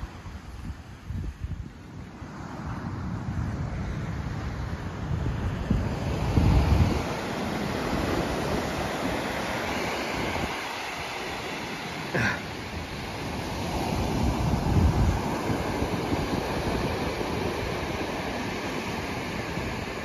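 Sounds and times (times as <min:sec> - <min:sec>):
surf washing onto sandy shore: 0:00.0 - 0:20.0
wind gusting on microphone: 0:00.0 - 0:20.0.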